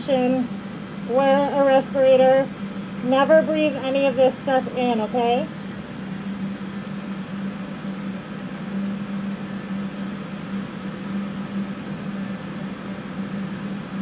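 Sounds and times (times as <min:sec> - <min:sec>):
electric fans running: 0:00.0 - 0:14.0.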